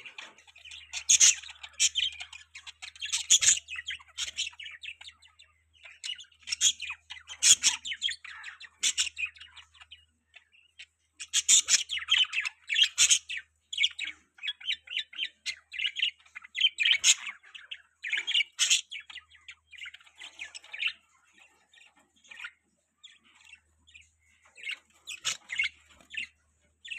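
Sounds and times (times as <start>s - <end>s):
budgerigars chirping: 0.0s - 26.9s.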